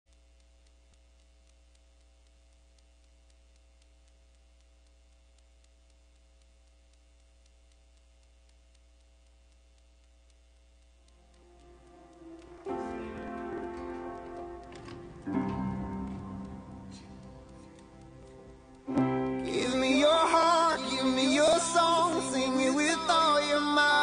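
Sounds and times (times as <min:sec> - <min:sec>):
faint electrical hum: 0:00.1 - 0:24.0
light ticking: 0:00.1 - 0:24.0.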